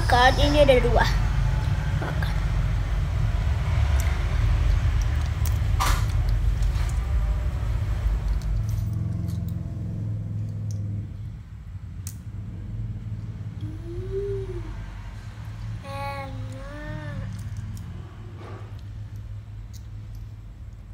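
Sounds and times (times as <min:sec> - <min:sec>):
low rumble: 0:00.0 - 0:20.9.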